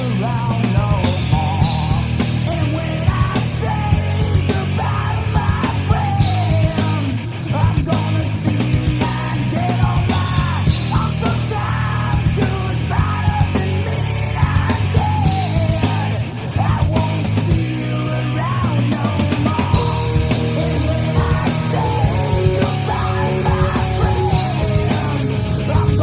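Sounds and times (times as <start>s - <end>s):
grunge rock band: 0.0s - 26.0s
yelled vocals: 0.0s - 26.0s.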